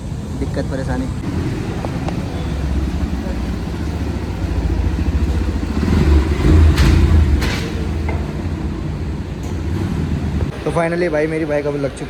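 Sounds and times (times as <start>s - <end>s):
motorcycle engine running: 1.2s - 11.6s.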